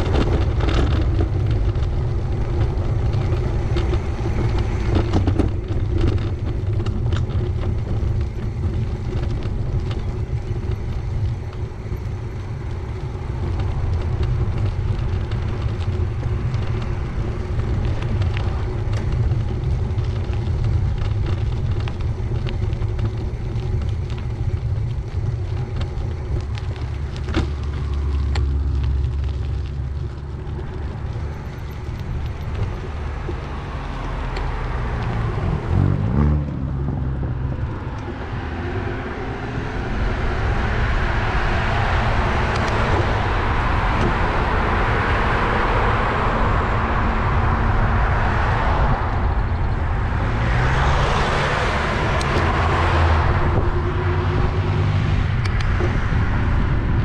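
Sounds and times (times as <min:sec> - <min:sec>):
small rattles and clicks: 0:00.0 - 0:39.1, 0:39.9 - 0:47.8, 0:51.1 - 0:56.2
bicycle rolling rumble: 0:00.0 - 0:57.0
deeper rumble: 0:00.0 - 0:57.0.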